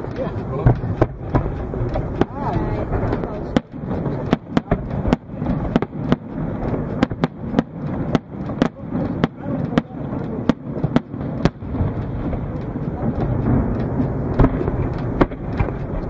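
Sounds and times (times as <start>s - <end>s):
fireworks bangs and cracks: 0.0s - 16.0s
low rumble: 0.0s - 16.0s.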